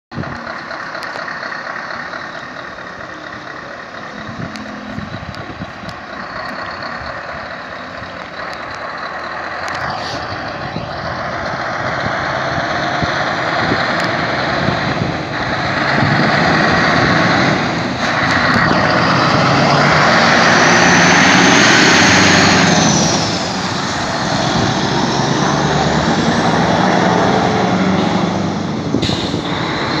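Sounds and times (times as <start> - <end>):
heavy truck engine running: 0.1 - 30.0.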